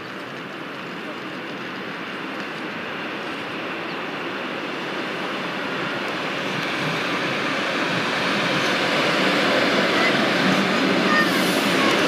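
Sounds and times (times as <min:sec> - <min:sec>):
electric train running on track: 0:00.0 - 0:12.0.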